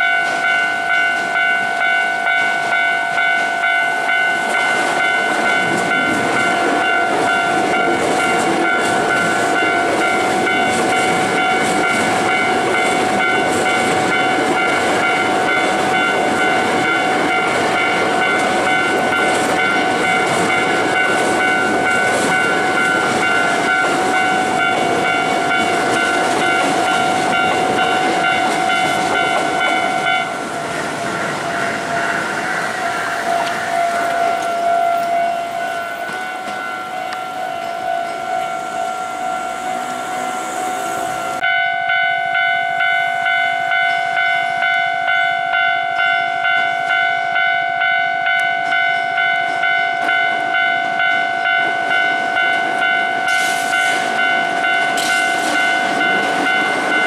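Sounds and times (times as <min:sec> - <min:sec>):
electric train passing: 0:00.0 - 0:57.0
level crossing alarm dinging: 0:00.0 - 0:57.0.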